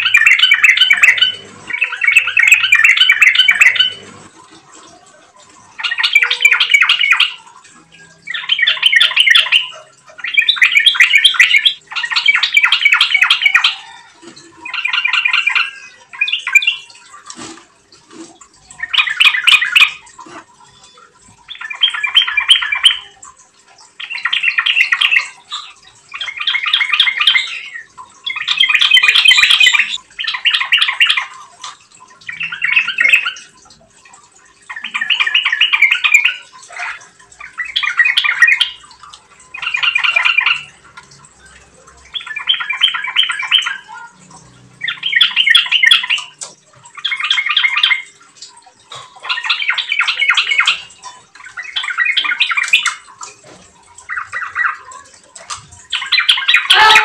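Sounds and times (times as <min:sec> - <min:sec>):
bird singing bubbly chattering: 0:00.0 - 0:57.0.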